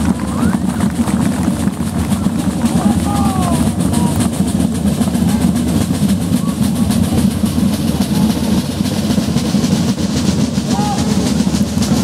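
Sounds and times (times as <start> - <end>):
heavy low rumble: 0.0 - 12.0
marching snare drums: 0.0 - 12.0.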